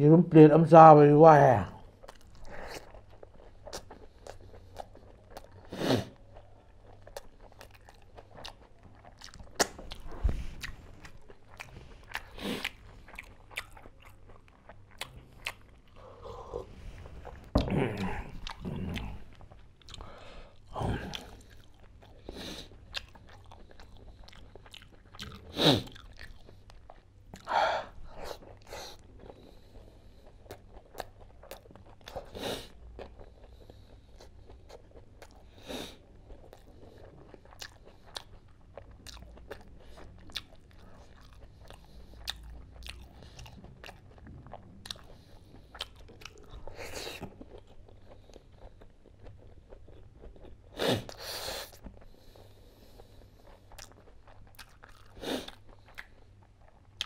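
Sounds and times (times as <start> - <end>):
person chewing and lip-smacking: 2.0 - 57.0.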